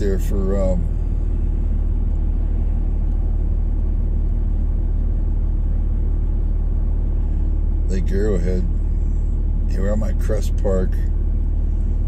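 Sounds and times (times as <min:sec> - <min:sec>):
vehicle engine and tyre drone: 0:00.0 - 0:12.0.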